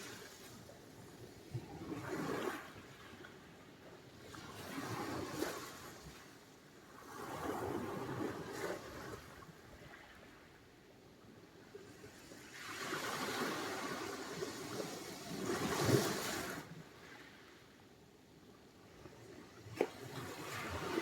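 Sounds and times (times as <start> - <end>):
small waves breaking on shore: 0.0 - 10.7, 11.6 - 17.8, 18.8 - 21.0.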